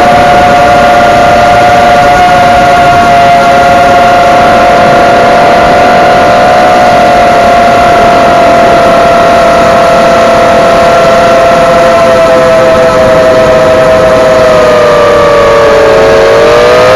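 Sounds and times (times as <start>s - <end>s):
quadcopter motors whining: 0.0s - 16.9s
rush of prop wash: 0.0s - 16.9s.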